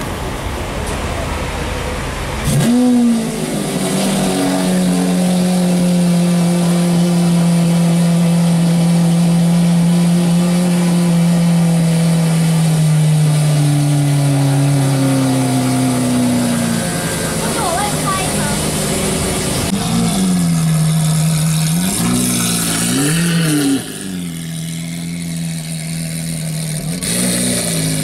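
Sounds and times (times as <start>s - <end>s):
car engine starting and idling: 0.0s - 28.0s.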